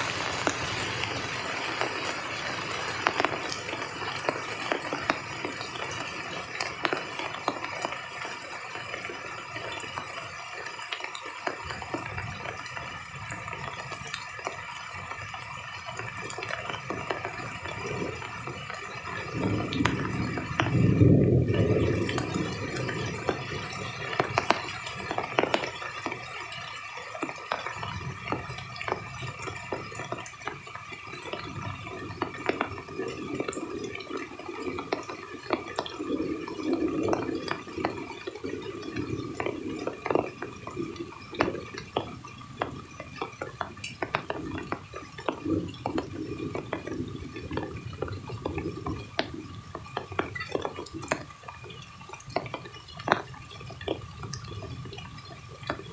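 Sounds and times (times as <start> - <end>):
low wash of water: 0.0 - 55.9
rain drops dripping: 0.0 - 55.9.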